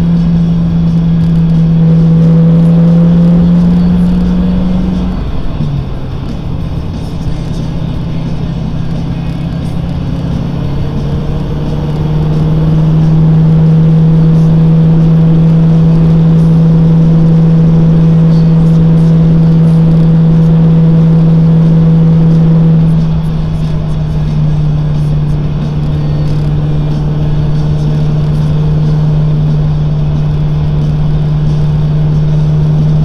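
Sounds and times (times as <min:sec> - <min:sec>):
car engine droning: 0:00.0 - 0:33.0
road noise: 0:00.0 - 0:33.0.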